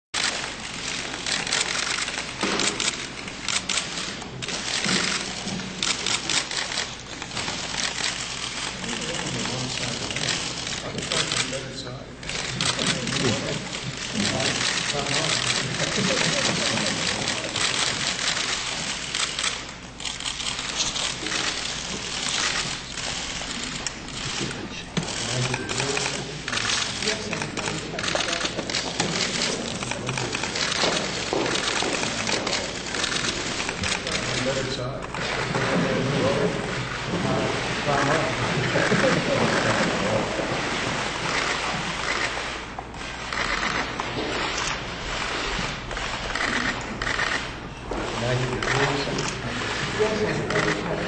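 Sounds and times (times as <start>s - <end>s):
camera shutters clicking rapidly: 0.2s - 35.8s, 41.2s - 51.0s.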